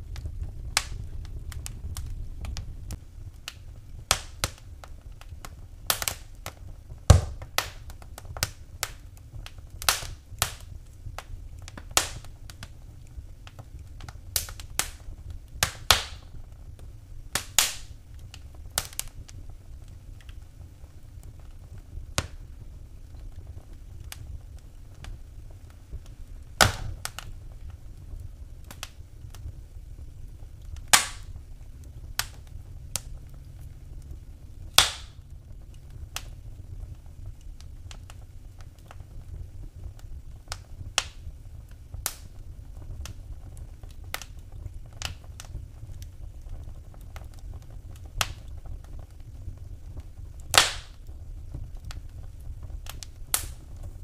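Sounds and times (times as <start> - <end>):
low rumble of burning: 0.0 - 54.0
sharp pops of fire: 0.0 - 54.0
wood fire crackling: 0.0 - 54.0.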